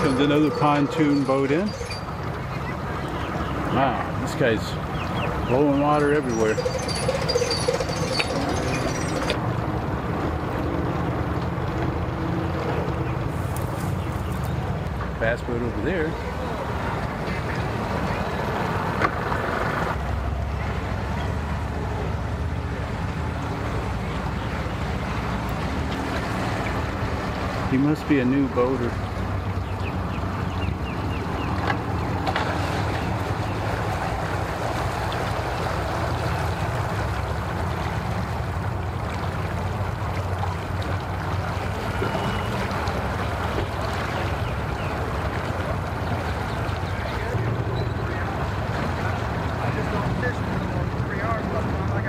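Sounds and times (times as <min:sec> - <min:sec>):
outboard motor idling: 0:00.0 - 0:52.0.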